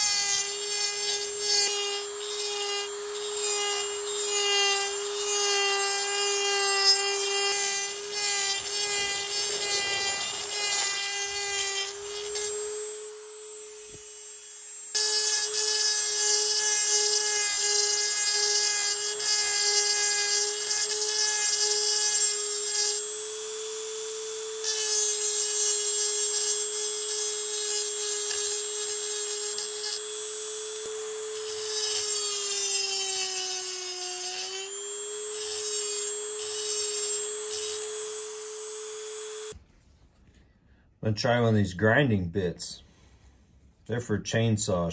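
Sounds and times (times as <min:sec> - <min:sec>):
grinding metal: 0:00.0 - 0:39.6
rotary tool motor whine: 0:00.0 - 0:39.6.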